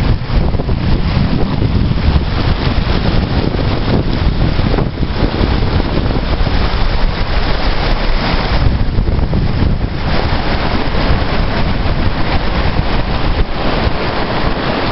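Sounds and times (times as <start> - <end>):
ocean surf on beach: 0.0 - 14.9
wind buffeting microphone: 0.0 - 14.9.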